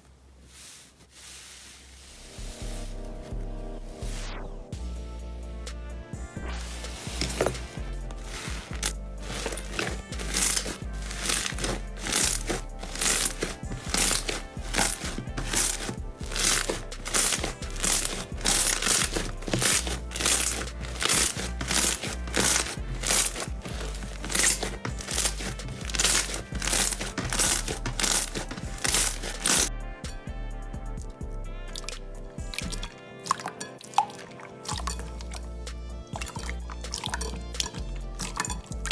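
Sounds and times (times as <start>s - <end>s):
soft background music: 0.5s - 38.9s.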